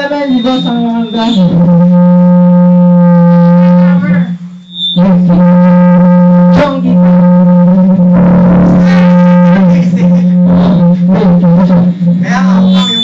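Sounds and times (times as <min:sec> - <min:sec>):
distorted live band music: 0:00.0 - 0:13.0
droning note: 0:00.0 - 0:13.0
guitar playing: 0:00.0 - 0:13.0.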